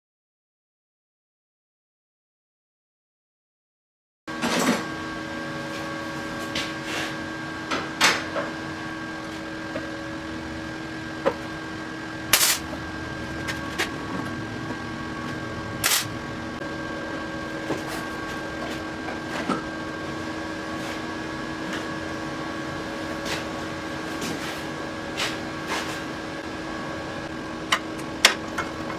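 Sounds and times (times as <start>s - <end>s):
machine hum with tones: 4.3s - 28.9s.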